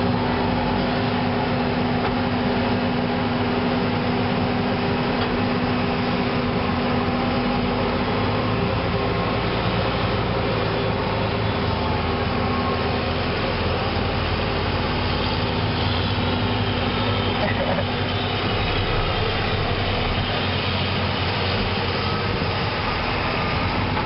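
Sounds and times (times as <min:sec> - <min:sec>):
diesel harvester engines running: 0:00.0 - 0:24.0.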